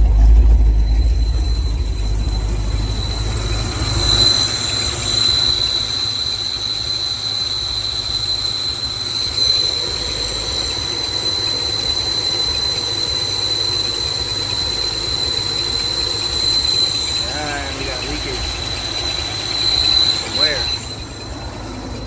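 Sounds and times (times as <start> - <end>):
high-pitched whine: 0.0 - 22.0
vehicle engine rumbling: 0.0 - 22.0.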